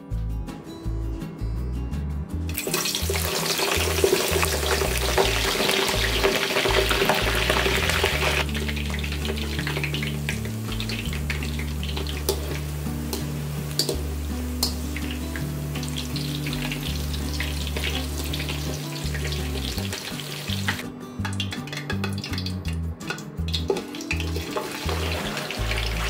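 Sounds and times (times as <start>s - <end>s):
food sizzling in hot oil: 2.5s - 22.6s, 23.5s - 26.0s
oil bubbling and crackling: 2.5s - 22.8s, 23.5s - 26.0s.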